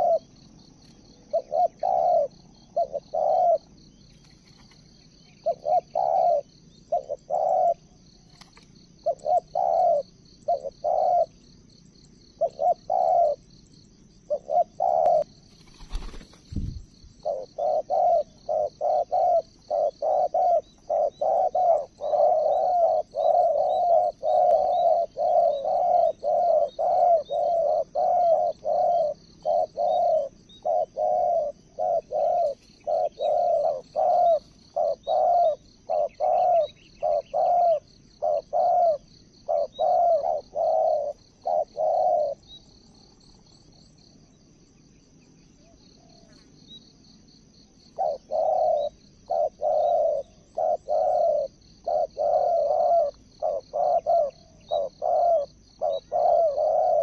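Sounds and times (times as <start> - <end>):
doves cooing: 0.0 - 11.5, 12.4 - 13.4, 14.3 - 43.3, 47.9 - 57.0
high insect buzz: 0.0 - 57.0.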